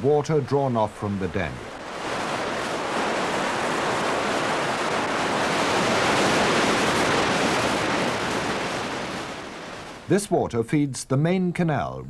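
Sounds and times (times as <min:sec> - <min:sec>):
water rushing through gates: 0:00.0 - 0:10.2.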